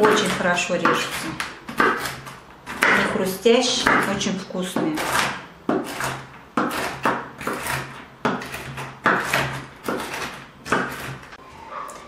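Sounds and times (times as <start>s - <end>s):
knife chopping nuts on board: 0.0s - 11.3s.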